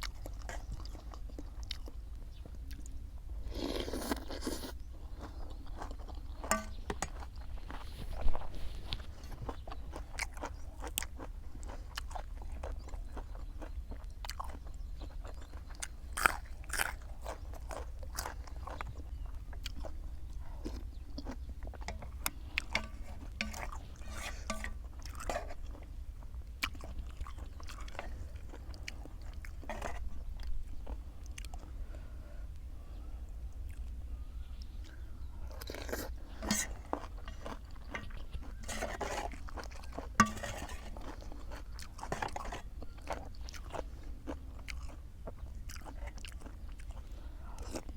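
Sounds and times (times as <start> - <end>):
crunching and chewing food: 0.0 - 47.9
low steady hum: 0.0 - 47.9.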